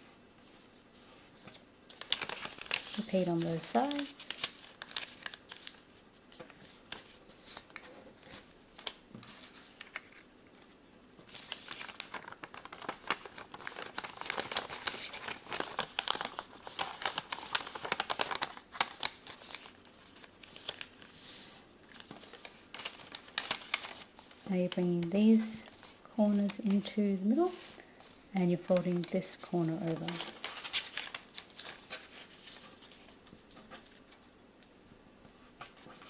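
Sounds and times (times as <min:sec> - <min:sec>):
paper crinkling and rustling: 0:01.4 - 0:34.4, 0:35.3 - 0:36.0.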